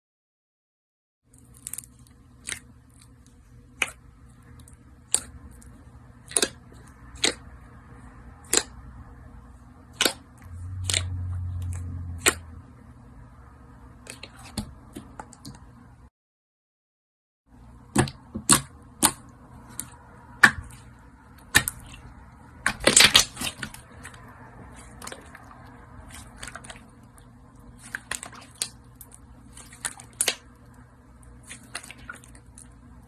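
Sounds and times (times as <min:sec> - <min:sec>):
low steady hum: 0:01.3 - 0:16.1, 0:17.5 - 0:33.0.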